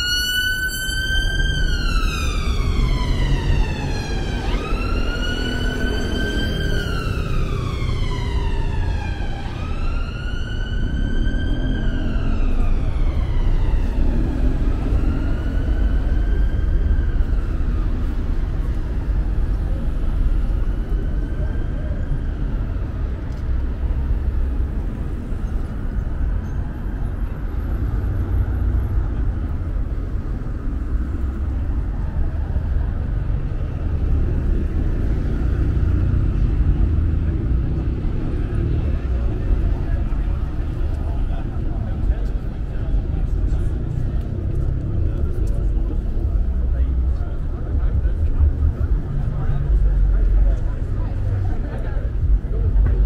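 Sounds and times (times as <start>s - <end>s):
emergency vehicle siren wailing: 0.0s - 53.0s
heavy road traffic rumble: 0.0s - 53.0s.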